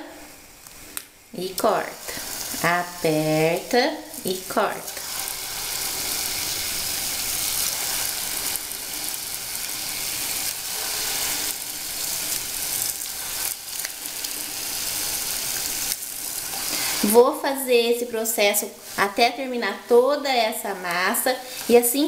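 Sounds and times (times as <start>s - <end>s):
batter sizzling in hot oil: 0.1s - 22.0s.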